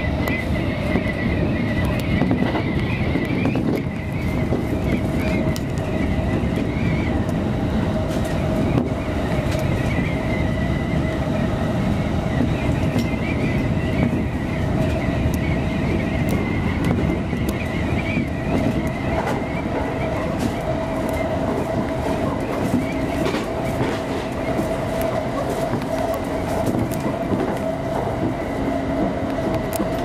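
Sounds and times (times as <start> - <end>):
train wheels rumbling: 0.0 - 30.0.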